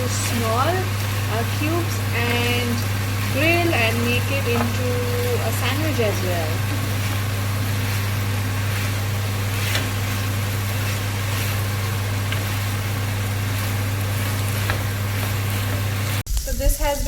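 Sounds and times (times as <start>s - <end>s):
food frying in oil: 0.0s - 17.0s
steady low hum: 0.0s - 17.0s.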